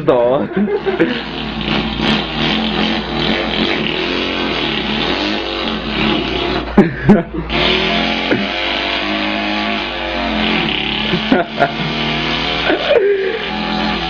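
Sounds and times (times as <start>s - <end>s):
man imitating an engine: 0.4s - 14.0s.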